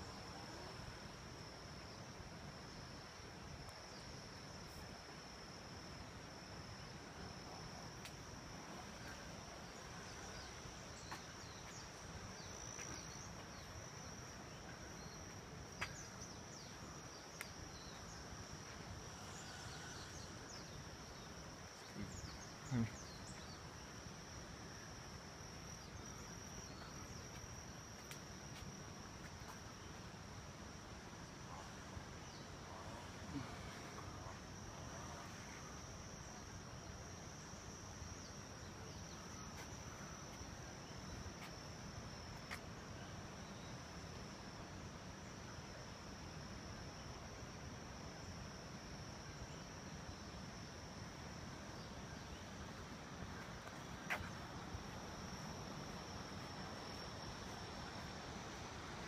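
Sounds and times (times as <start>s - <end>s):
faint rainforest background noise: 0.0s - 59.0s.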